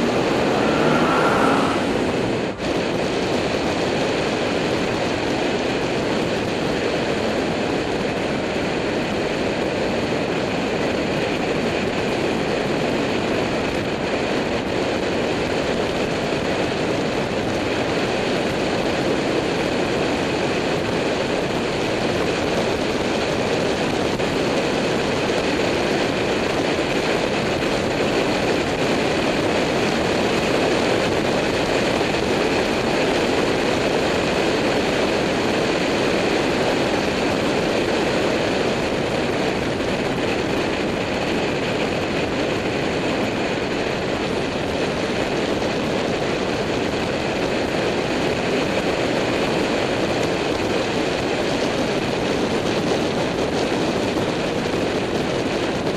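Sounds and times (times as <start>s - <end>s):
road noise: 0.0s - 55.9s
wind rush: 0.0s - 55.9s.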